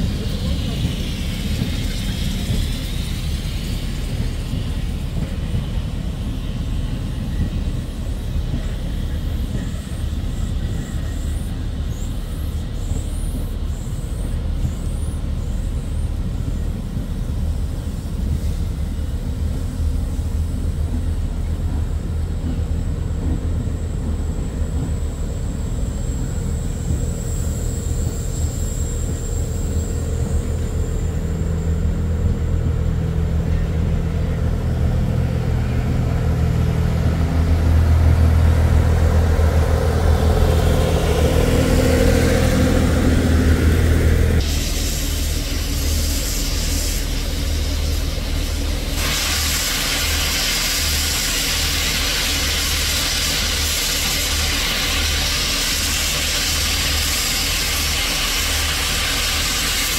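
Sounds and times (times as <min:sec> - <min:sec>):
train engine rumble: 0:00.0 - 0:59.9.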